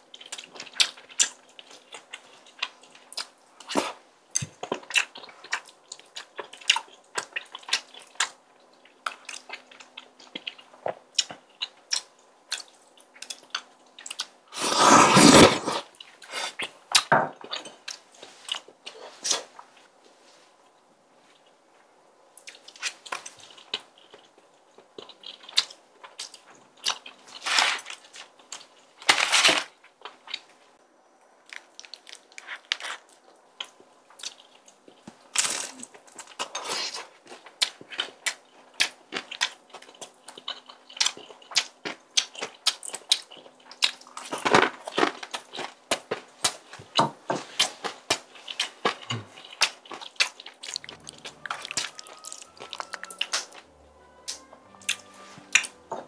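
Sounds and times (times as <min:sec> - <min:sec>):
chewing and mouth sounds: 0:00.1 - 0:19.8, 0:22.4 - 0:28.9, 0:31.4 - 0:55.8.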